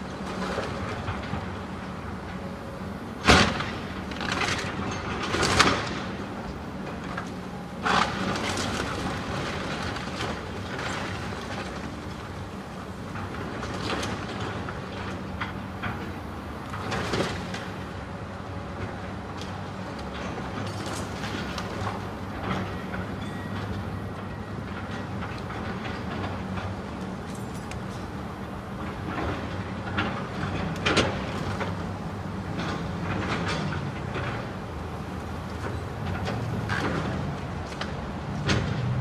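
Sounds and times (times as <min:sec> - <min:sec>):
moving vehicle rumble: 0:00.0 - 0:39.0.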